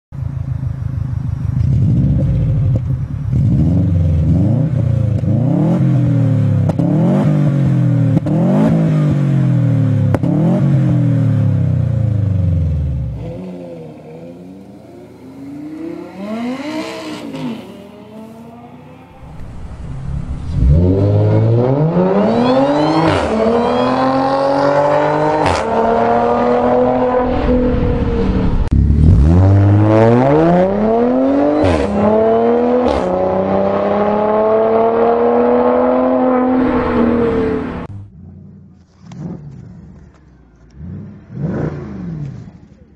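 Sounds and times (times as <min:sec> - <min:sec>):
car engine revving: 0:00.8 - 0:42.8
car accelerating hard: 0:01.6 - 0:39.8.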